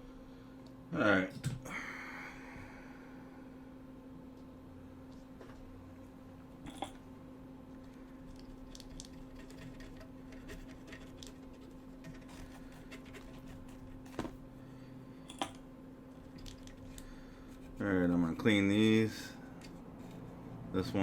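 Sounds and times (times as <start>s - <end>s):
fume extractor fan humming: 0.0s - 21.0s.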